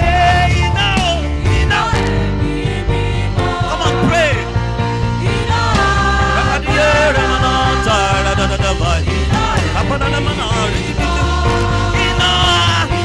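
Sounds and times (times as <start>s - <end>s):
bass: 0.0s - 13.0s
sliding lead melody: 0.0s - 13.0s
steady drum beat: 0.0s - 13.0s.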